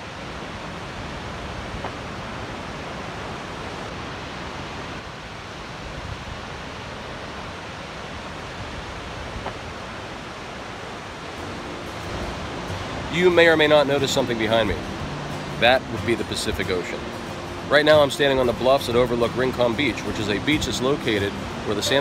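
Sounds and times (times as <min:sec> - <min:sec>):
ocean surf: 0:00.0 - 0:22.0.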